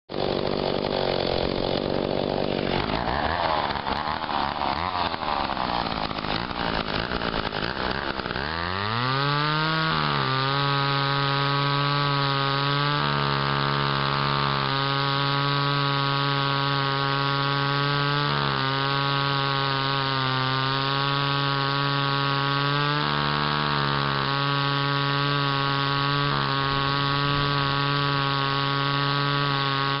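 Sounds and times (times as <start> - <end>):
chainsaw cutting through log: 0.1 - 30.0.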